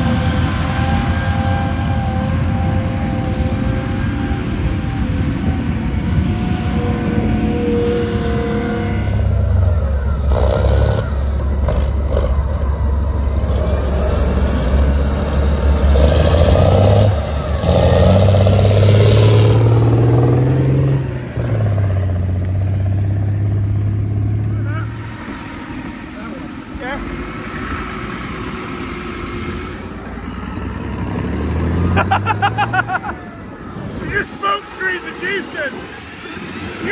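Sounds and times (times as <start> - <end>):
tracked vehicle engine revving: 0.0 - 36.9.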